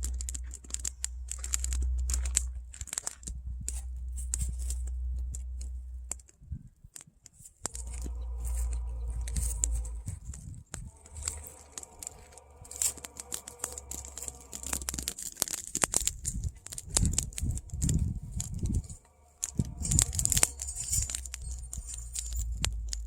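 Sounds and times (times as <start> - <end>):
crackling and crunching clicks: 0.0 - 23.0
wind rumbling on microphone: 0.0 - 23.0.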